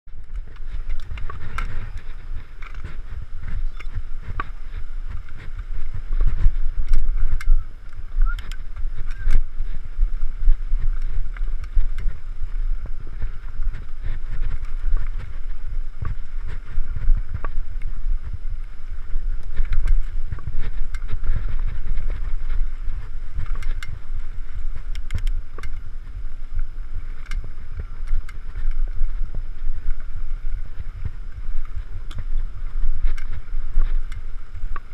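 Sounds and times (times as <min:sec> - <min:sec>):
bike clicks and rattles: 0:00.1 - 0:34.9
wind rumble on microphone: 0:00.1 - 0:34.9.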